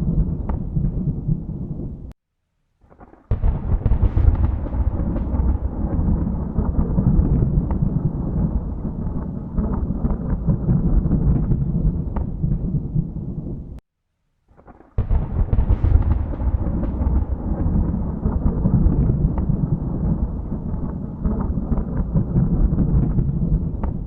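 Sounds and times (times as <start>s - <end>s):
thunder rumbling: 3.3s - 13.8s, 15.0s - 24.0s.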